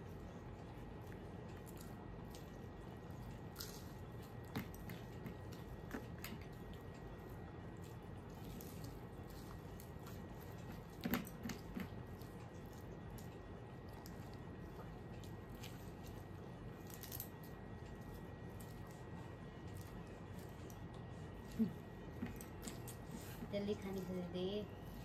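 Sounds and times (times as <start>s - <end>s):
biting and chewing food: 0.0s - 25.0s.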